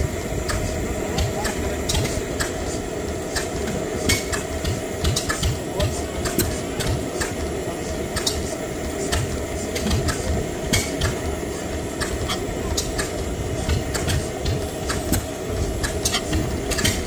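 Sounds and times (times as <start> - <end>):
stationary engines clattering: 0.0 - 17.0.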